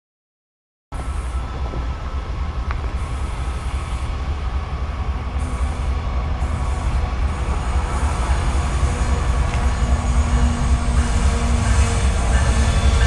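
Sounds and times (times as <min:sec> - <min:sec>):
freight train rumbling: 0:00.9 - 0:13.0.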